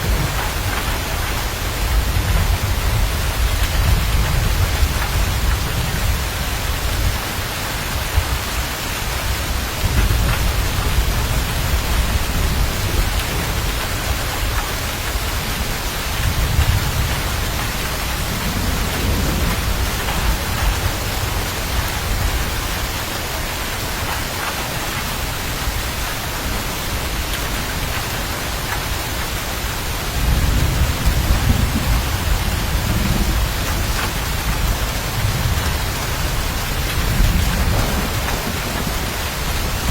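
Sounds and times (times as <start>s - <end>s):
heavy rain: 0.0s - 39.9s
low thunder rumbling: 0.0s - 39.9s.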